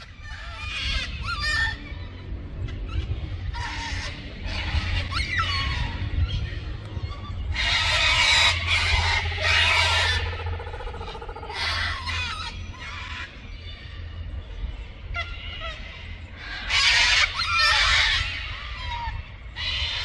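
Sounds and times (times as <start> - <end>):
kookaburras laughing calls: 0.0 - 6.4, 7.1 - 13.5, 15.1 - 20.0.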